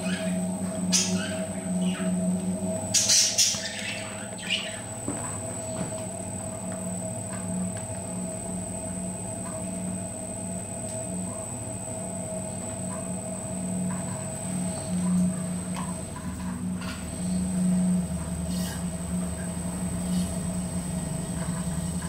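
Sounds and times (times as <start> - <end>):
pottery wheel motor humming: 0.0 - 22.0.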